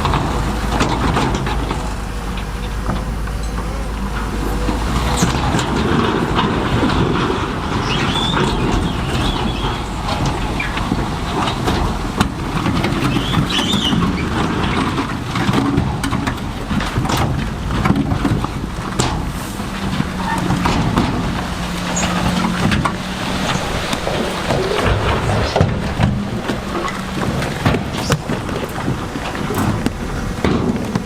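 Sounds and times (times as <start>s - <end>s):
diesel machinery engine: 0.0s - 31.0s.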